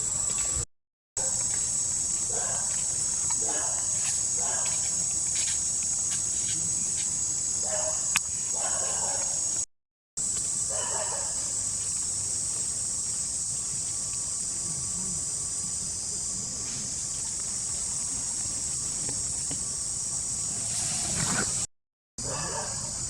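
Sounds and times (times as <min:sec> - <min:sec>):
insect chorus drone: 0:00.0 - 0:00.6, 0:01.2 - 0:23.0.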